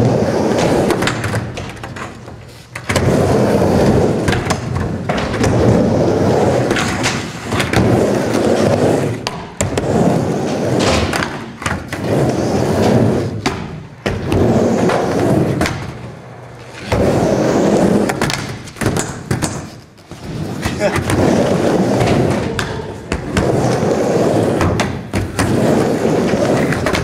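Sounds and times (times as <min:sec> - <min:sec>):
skateboard wheels rolling on wood: 0:00.0 - 0:27.0.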